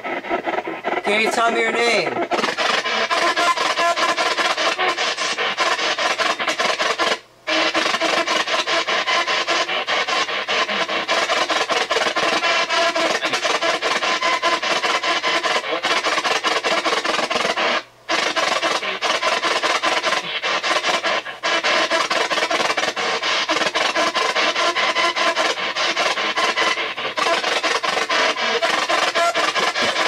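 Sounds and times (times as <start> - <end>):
choppy rasping radio static: 0.0 - 30.0.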